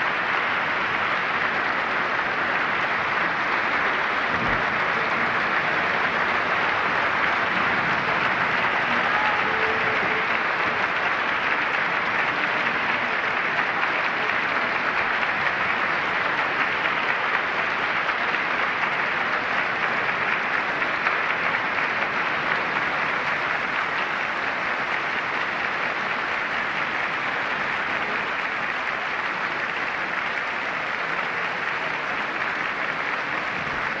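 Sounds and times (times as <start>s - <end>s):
audience applauding: 0.0s - 34.0s.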